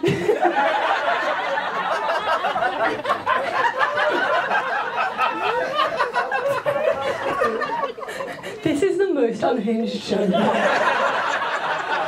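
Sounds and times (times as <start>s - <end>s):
audience laughing: 0.0s - 8.6s, 10.2s - 12.0s.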